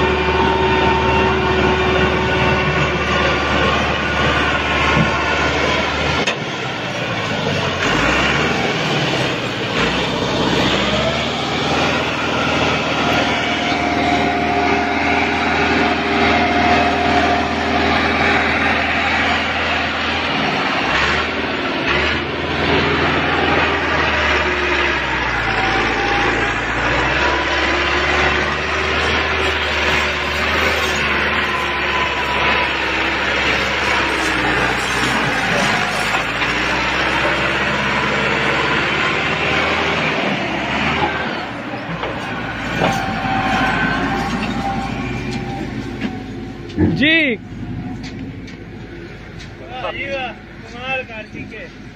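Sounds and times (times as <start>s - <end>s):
tractor diesel engine droning: 0.0s - 51.9s.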